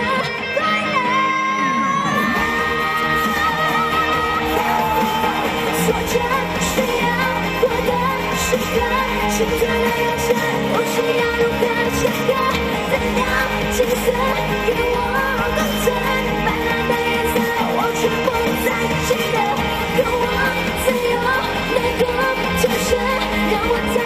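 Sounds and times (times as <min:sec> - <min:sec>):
pop accompaniment with steady beat: 0:00.0 - 0:24.0
woman singing pop song: 0:00.0 - 0:24.0.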